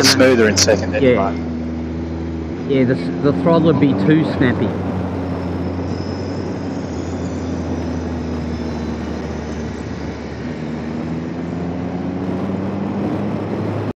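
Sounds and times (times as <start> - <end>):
motorcycle engine running: 0.0 - 13.7
wind rushing over microphone: 0.0 - 13.9.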